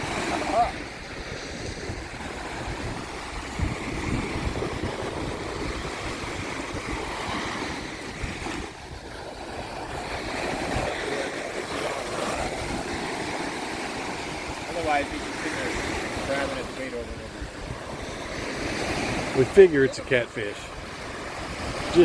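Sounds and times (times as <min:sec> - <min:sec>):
surf washing on beach: 0:00.0 - 0:22.0
wind buffeting microphone: 0:00.0 - 0:22.0.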